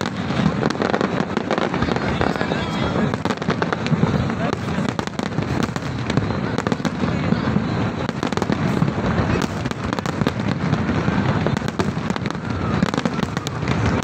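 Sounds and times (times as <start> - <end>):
firework cracks and crackles: 0.0 - 14.0.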